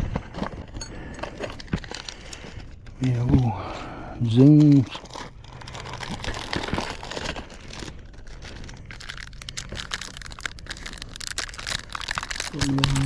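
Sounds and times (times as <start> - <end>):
plastic bag crinkling: 0.4 - 3.6, 4.2 - 13.0.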